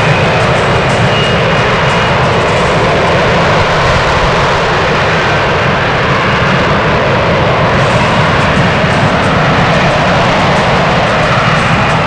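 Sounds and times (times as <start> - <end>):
loud steady jet noise: 0.0 - 12.0.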